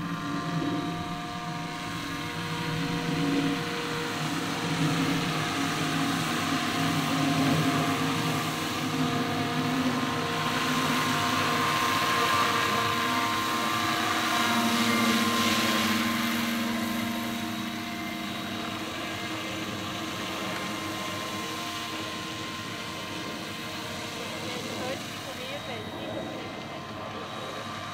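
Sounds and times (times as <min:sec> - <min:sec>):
model helicopter flying: 0:00.0 - 0:27.9.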